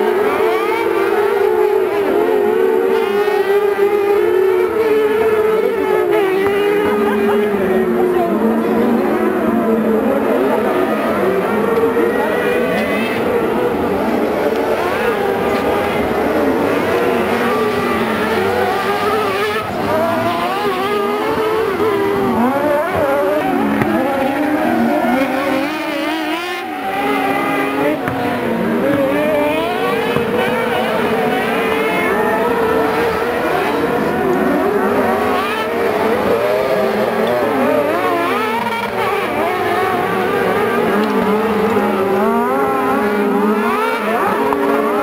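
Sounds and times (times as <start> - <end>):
racing buggy engines revving: 0.0 - 45.0.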